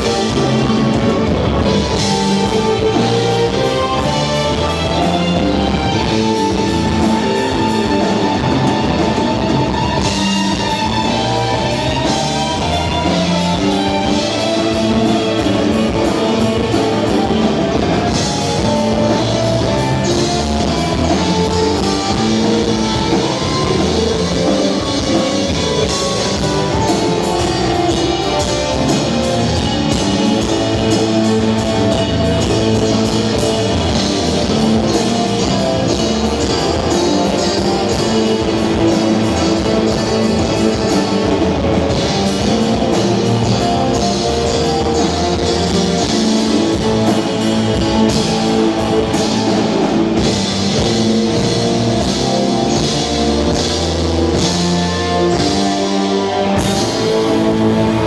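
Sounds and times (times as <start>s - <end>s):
drum kit beat: 0.0s - 58.0s
electric guitars: 0.0s - 58.0s.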